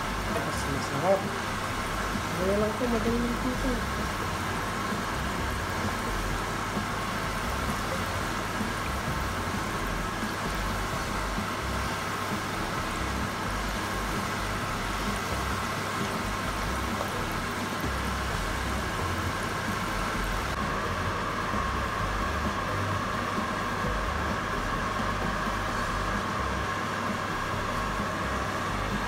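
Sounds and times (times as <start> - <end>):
oil sizzling in a frying pan: 0.0 - 29.0.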